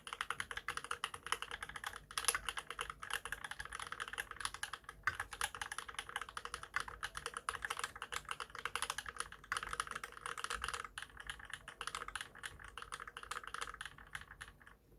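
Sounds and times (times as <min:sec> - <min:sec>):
fast mechanical keyboard typing: 0:00.0 - 0:14.8.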